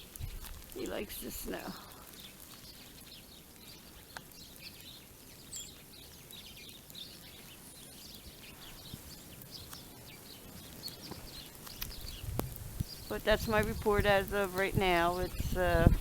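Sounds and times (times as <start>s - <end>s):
small birds chirping: 0.0s - 16.0s
steady outdoor hush: 0.0s - 16.0s.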